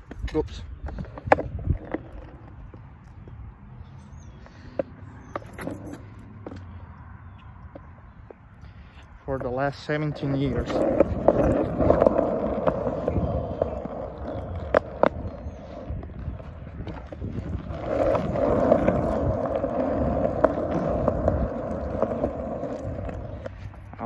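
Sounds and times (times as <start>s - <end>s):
skateboard wheels rolling on concrete: 0.0s - 24.0s.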